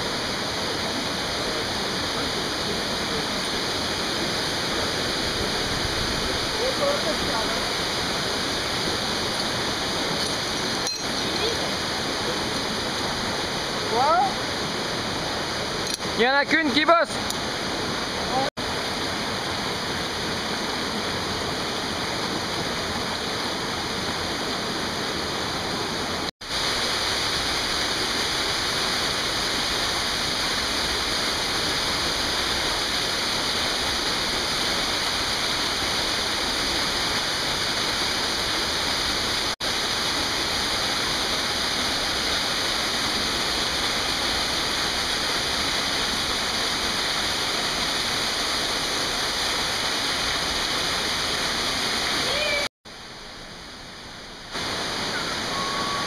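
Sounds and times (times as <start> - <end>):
stream pouring over rocks: 0.0 - 56.0.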